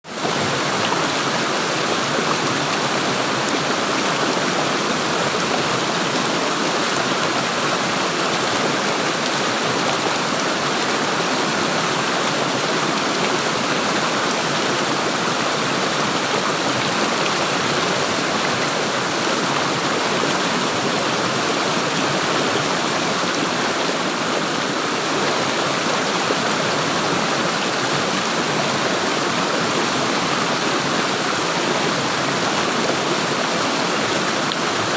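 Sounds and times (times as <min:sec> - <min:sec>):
running water gurgling: 0:00.1 - 0:34.9.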